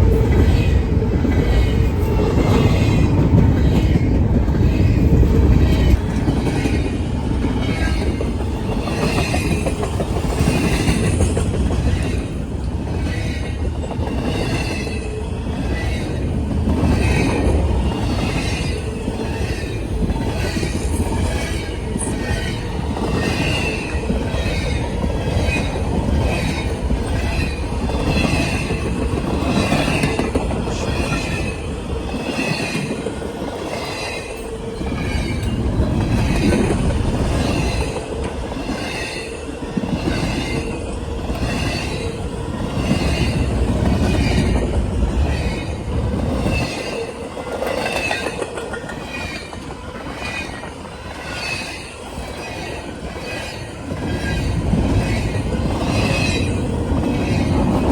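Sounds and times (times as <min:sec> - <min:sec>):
railroad cars rumbling past: 0:00.0 - 0:57.9.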